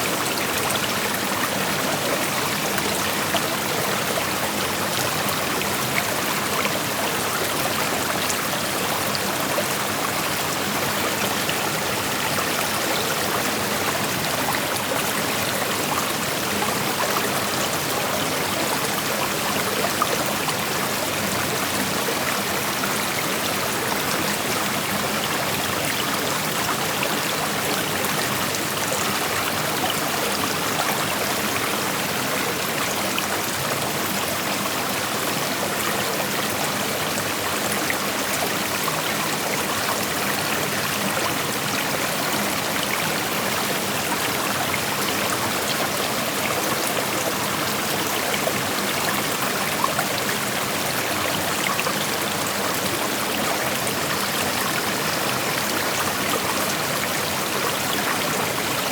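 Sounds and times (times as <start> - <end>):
creek water rushing over rocks: 0.0 - 58.9.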